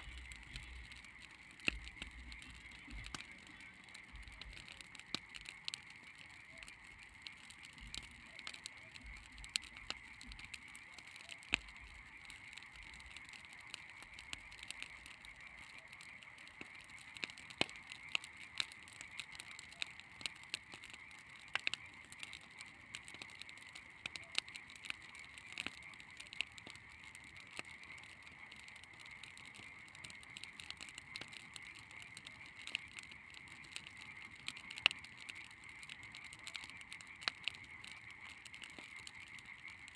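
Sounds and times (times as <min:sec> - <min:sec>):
bonfire crackling: 0:00.0 - 0:39.9.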